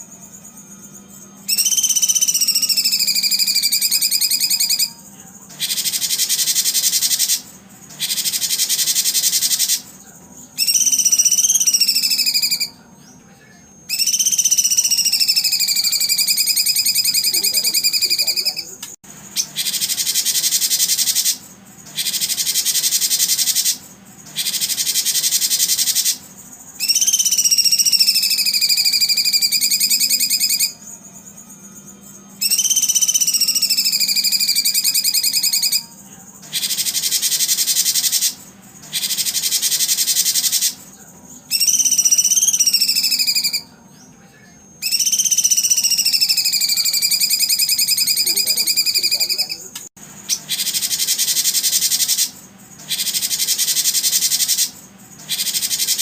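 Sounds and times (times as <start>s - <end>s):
songbird buzzing trills: 0.0s - 44.2s, 44.8s - 56.0s.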